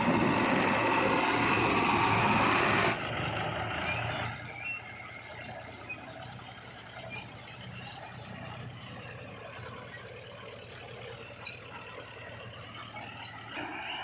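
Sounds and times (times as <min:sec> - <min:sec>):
heavy machine engine running: 0:00.0 - 0:14.0.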